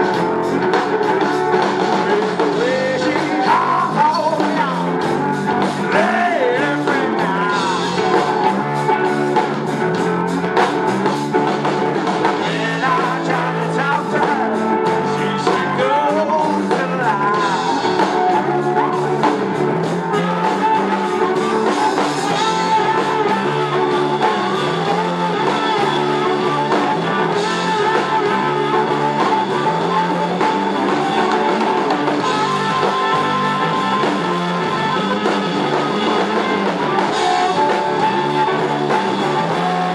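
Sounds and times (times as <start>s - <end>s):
person singing: 0.0s - 9.2s, 12.2s - 39.9s
bass guitar: 0.0s - 39.9s
drum kit: 0.0s - 39.9s
electric guitar: 0.0s - 39.9s.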